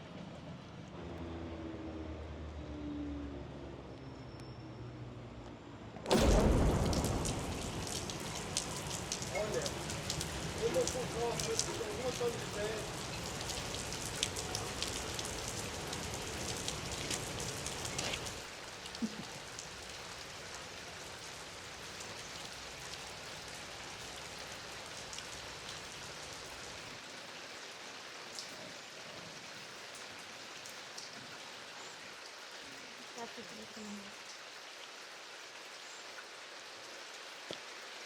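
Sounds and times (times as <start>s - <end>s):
raindrops ticking on a surface: 5.4s - 38.0s
rain falling: 6.0s - 38.0s.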